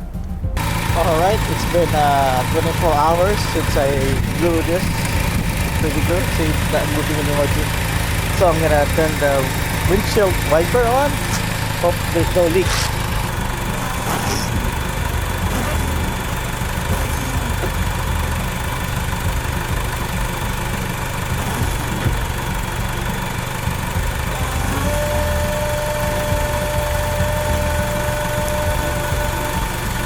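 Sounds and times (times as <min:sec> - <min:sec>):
car engine idling: 0:00.0 - 0:30.0
washer pump whine: 0:00.0 - 0:30.0.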